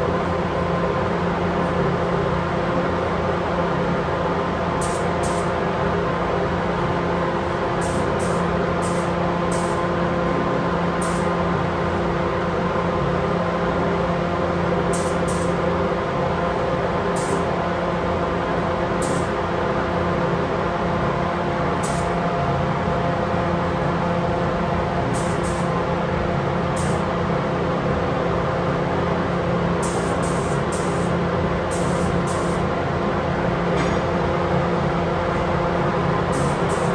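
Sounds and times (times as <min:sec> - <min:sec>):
ventilation hum and rushing air: 0:00.0 - 0:36.9.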